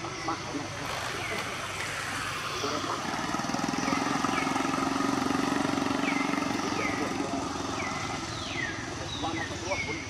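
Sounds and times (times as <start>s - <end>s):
passing vehicle engine drone: 0.0s - 10.0s.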